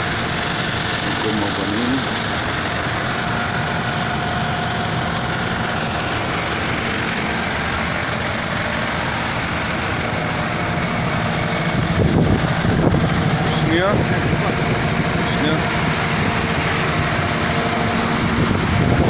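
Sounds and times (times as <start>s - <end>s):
vehicle engine drone from cabin: 0.0s - 19.0s.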